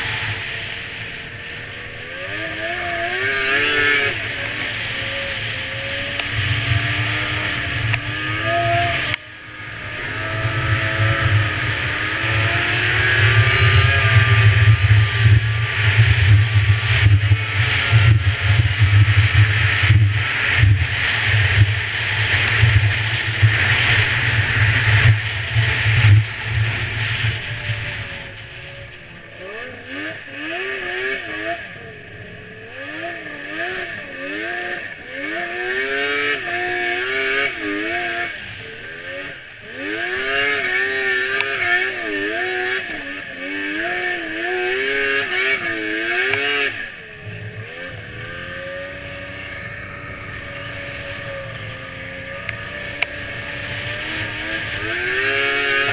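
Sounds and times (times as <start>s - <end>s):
snowmobile engine revving: 0.0s - 55.9s.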